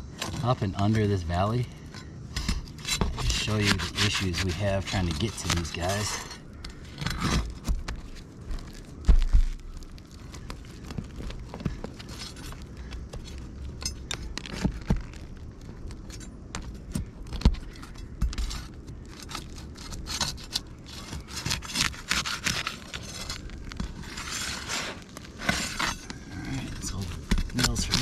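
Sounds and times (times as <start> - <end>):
tool scraping roof shingles: 0.1 - 28.0.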